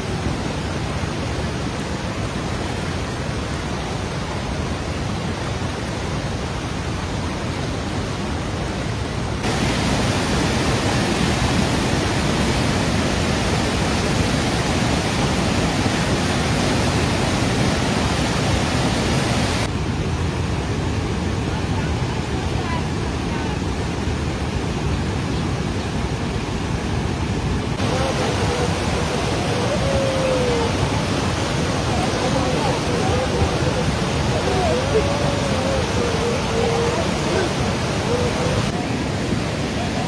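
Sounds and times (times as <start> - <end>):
flood water rushing: 0.0 - 40.0.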